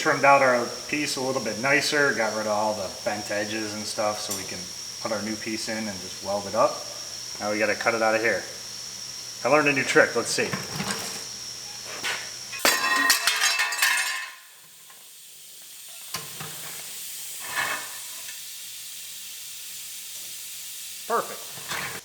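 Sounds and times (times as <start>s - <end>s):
welder crackling and hissing: 0.0s - 22.0s.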